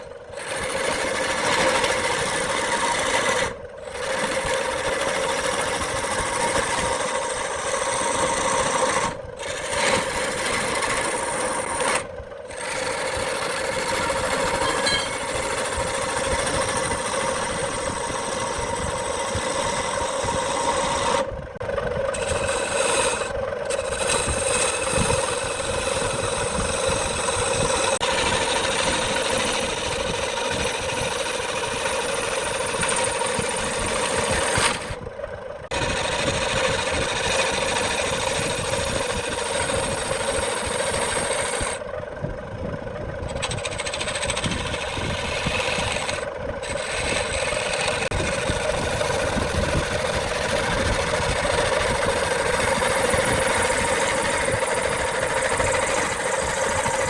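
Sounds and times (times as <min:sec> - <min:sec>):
lathe motor hum: 0:00.0 - 0:57.0
tool scraping spinning wood: 0:00.0 - 0:57.0.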